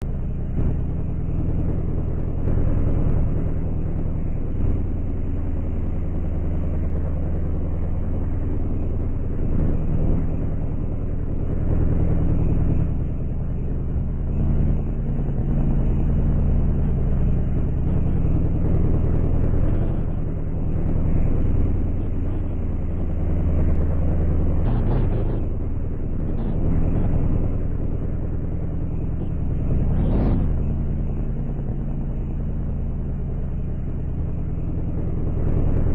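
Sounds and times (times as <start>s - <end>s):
motor vehicle engine humming: 0.0s - 35.9s.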